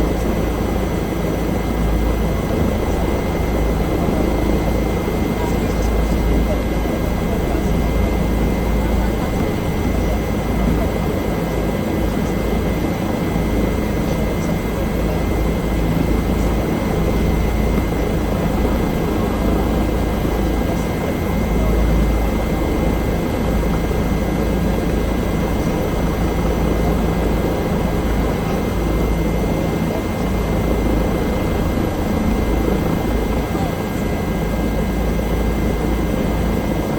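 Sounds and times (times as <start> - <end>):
helicopter rotor and engine rumble: 0.0 - 36.9.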